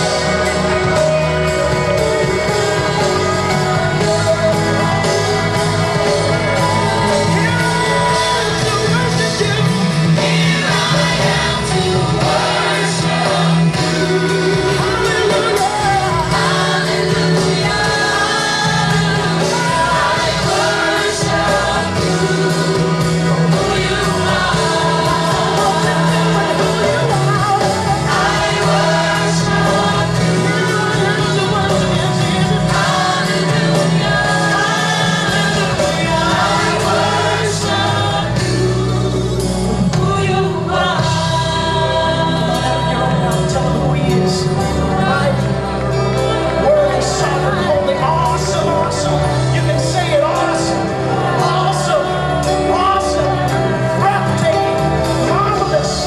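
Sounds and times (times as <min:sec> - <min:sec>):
gospel singers with full band: 0:00.0 - 0:56.0.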